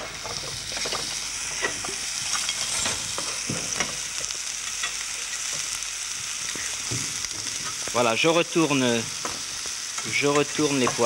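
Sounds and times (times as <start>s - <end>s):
vegetables sizzling in saucepans: 0.0s - 11.0s.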